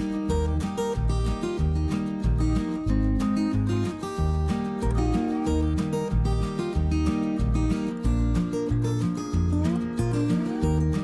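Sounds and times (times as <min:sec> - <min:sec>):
guitar music with low beat: 0:00.0 - 0:11.0.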